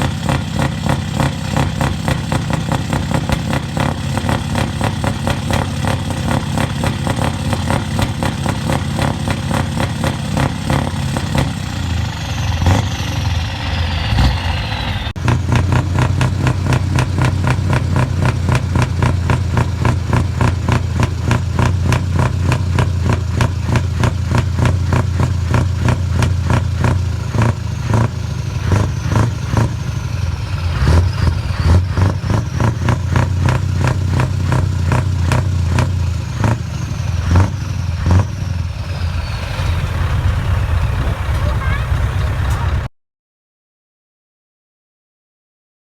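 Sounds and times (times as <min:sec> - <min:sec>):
diesel truck engines running loud: 0:00.0 - 0:42.9.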